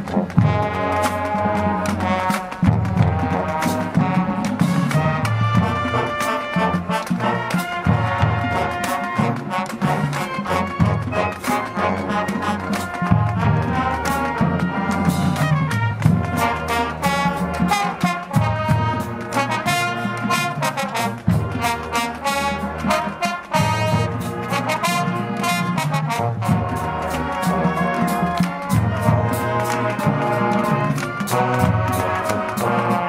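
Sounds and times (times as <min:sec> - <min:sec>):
marching band brass: 0:00.0 - 0:33.0
percussion hits: 0:00.0 - 0:33.0.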